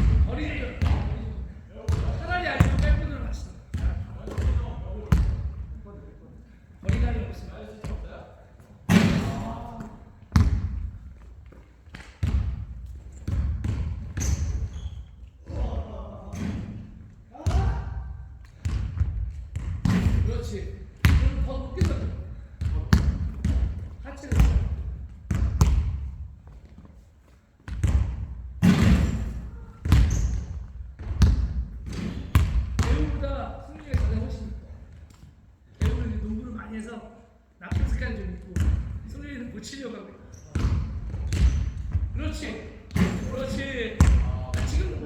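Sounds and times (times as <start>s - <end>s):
basketballs bouncing on gym floor: 0.0s - 6.0s, 6.8s - 27.0s, 27.6s - 36.5s, 37.7s - 39.4s, 40.3s - 45.0s.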